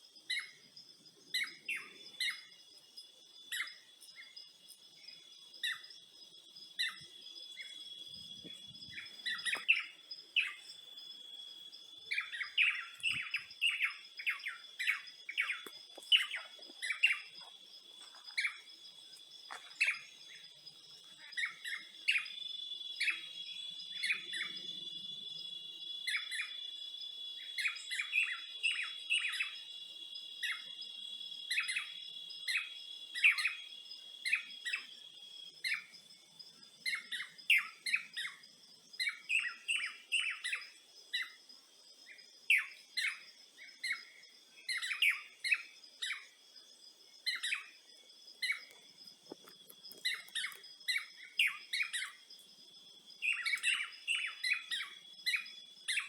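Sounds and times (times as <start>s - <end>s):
birds chirping: 0.0s - 30.9s, 36.8s - 46.4s, 47.1s - 52.4s, 53.1s - 56.0s.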